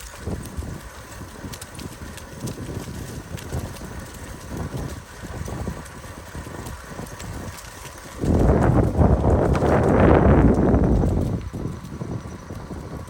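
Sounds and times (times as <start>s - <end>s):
bicycle rattling over dirt trail: 0.0s - 13.0s
wind buffeting microphone: 0.0s - 13.0s.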